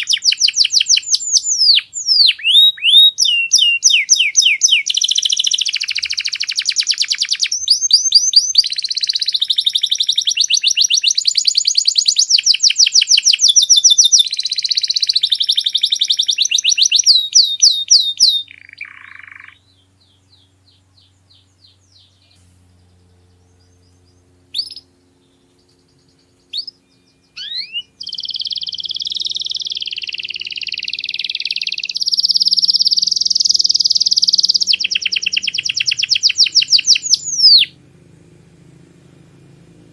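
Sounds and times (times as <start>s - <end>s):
canary singing trills: 0.0s - 37.8s.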